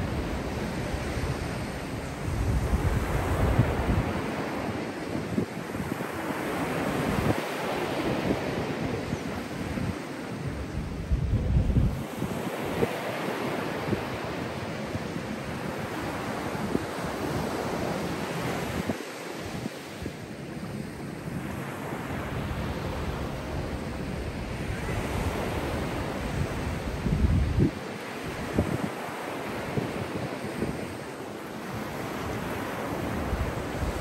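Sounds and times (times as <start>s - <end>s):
wind buffeting microphone: 0.0s - 20.4s, 22.2s - 34.0s
small waves breaking on beach: 0.0s - 34.0s.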